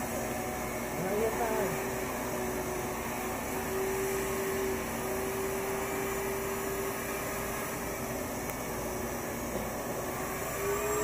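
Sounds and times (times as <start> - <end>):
wet dry vacuum running: 0.0 - 11.0.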